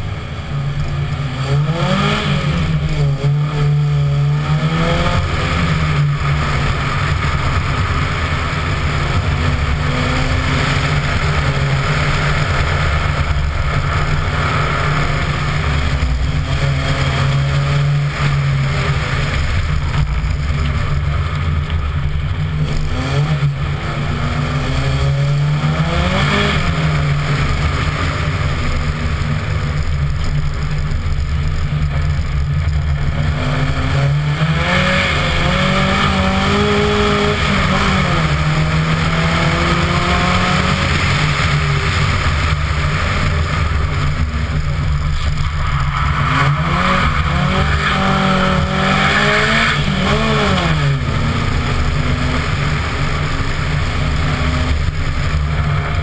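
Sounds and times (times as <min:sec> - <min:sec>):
race car engine accelerating: 0:00.0 - 0:56.0
steady rushing noise: 0:00.0 - 0:56.0.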